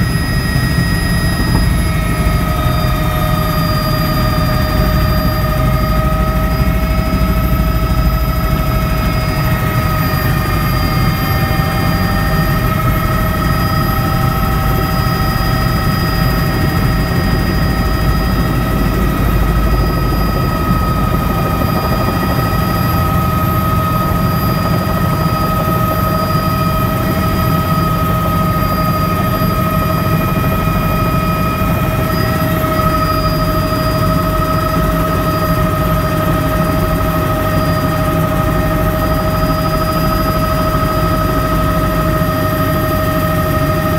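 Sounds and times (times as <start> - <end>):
helicopter rotor noise: 0.0 - 43.9
helicopter turbine whine: 0.0 - 43.9.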